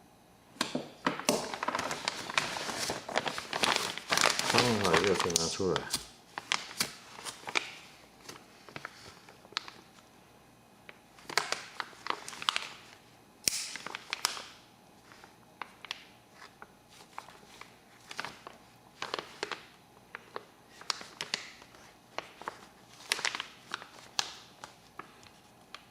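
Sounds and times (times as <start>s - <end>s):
plastic bag crinkling: 1.3s - 10.0s, 11.2s - 13.0s, 13.7s - 25.9s.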